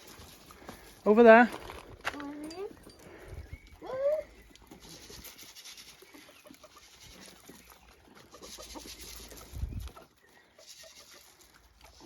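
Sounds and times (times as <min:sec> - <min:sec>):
chickens clucking: 0:02.0 - 0:12.0.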